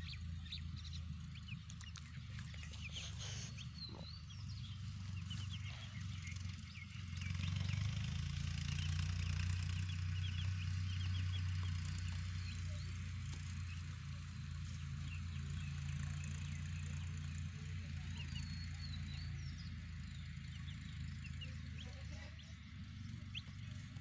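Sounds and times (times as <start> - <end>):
chicks cheeping: 0.0 - 24.0
steady low hum: 0.0 - 24.0.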